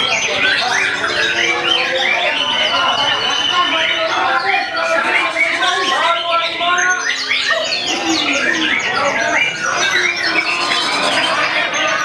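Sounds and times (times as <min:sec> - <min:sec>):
many songbirds singing: 0:00.0 - 0:12.0.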